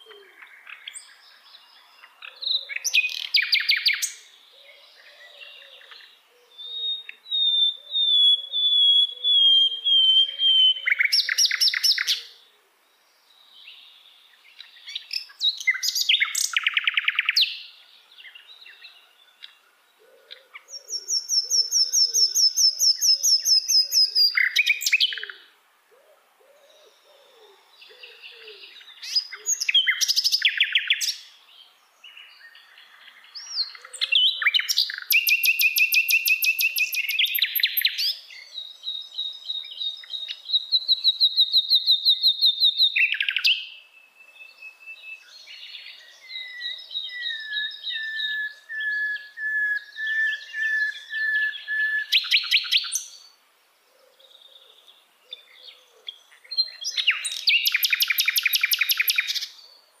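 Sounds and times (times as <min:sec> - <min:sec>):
nightingale singing: 0:00.0 - 1:00.0.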